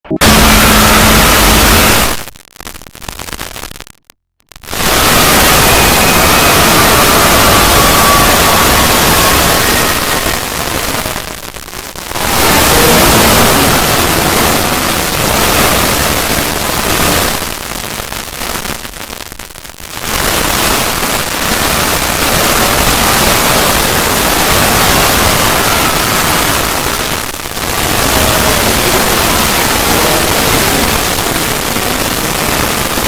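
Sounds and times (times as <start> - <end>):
static-like rushing noise: 0.1 - 33.0.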